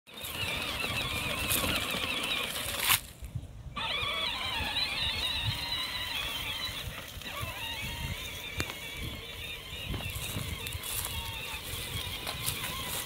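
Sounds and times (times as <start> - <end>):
electric motor whining: 0.1 - 3.1, 3.7 - 13.0
plastic wheels rumbling and knocking: 0.1 - 3.2, 3.8 - 13.0.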